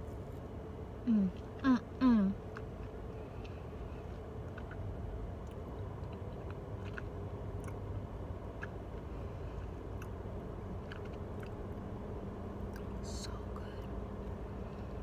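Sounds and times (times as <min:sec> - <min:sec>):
low car cabin hum: 0:00.0 - 0:15.0
person chewing soft food: 0:00.0 - 0:15.0.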